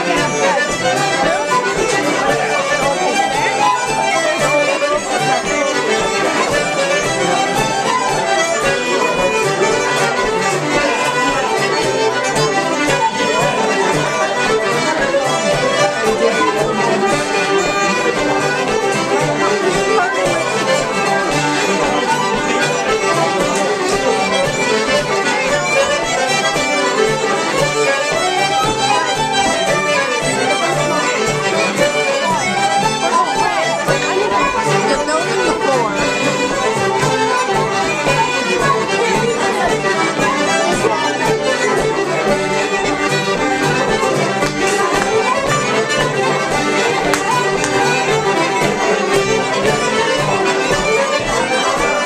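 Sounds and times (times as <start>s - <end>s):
button accordion: 0.0s - 52.0s
fiddle: 0.0s - 52.0s.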